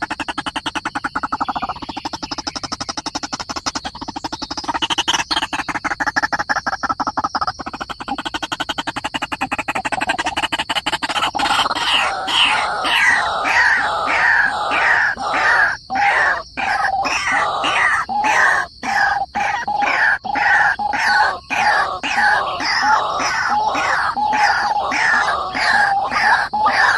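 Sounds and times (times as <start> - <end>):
waterhen rattling chatter: 0.0 - 26.9.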